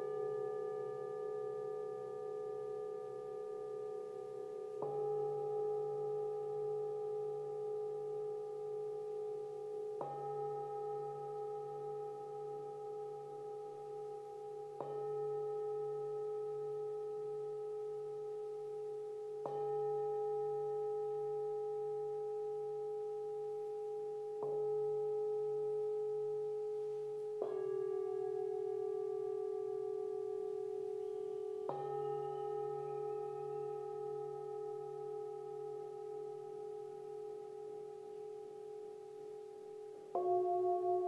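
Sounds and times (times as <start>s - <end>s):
singing bowl struck and ringing: 0.0s - 41.0s.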